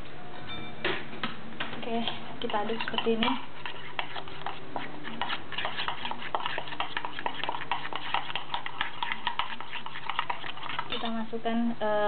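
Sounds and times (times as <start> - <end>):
spoon stirring batter in bowl: 1.8 - 11.6.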